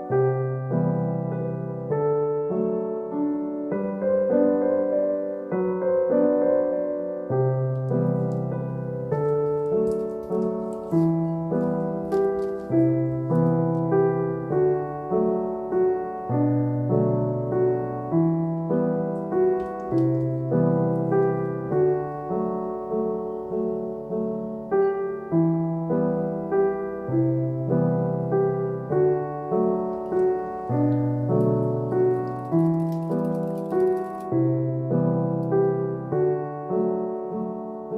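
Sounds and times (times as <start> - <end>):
gentle piano music: 0.0 - 37.9.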